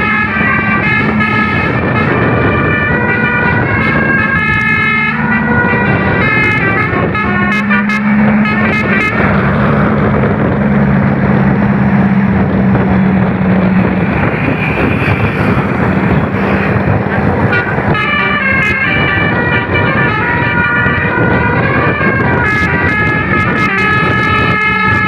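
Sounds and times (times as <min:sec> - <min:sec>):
bus musical horn tune: 0:00.0 - 0:10.9, 0:12.9 - 0:25.0
rushing vehicle noise: 0:00.0 - 0:25.0.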